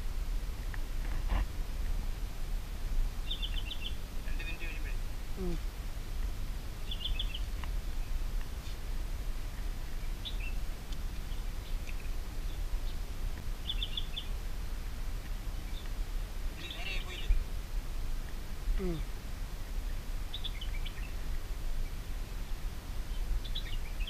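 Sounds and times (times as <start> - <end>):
small birds chirping: 3.2 - 8.8, 9.4 - 17.6, 18.2 - 24.0.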